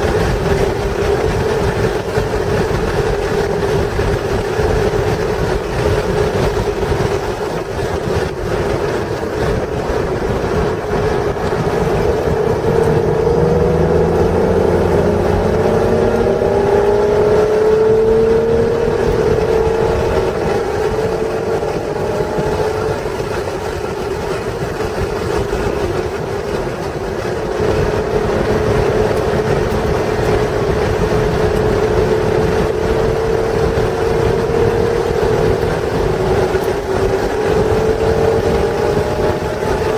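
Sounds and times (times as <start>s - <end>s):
car engine accelerating: 0.0s - 39.9s
road noise: 0.0s - 39.9s
wind noise: 0.0s - 39.9s.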